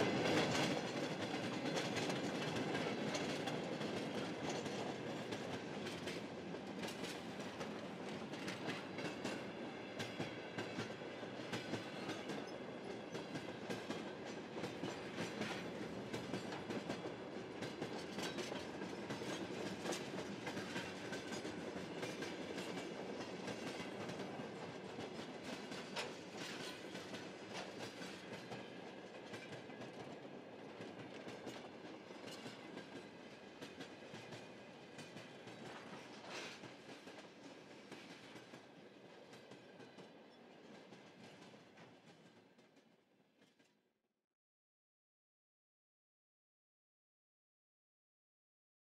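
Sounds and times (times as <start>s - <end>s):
train wheels clattering on rails: 0.0s - 43.7s.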